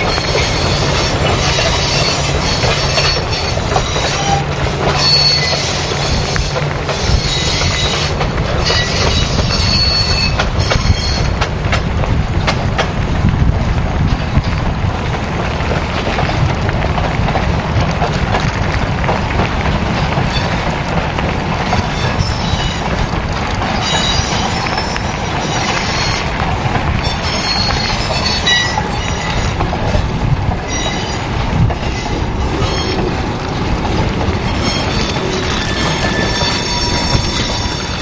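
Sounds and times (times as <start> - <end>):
train rolling along rails: 0.0 - 38.0
wheels squealing: 0.0 - 38.0.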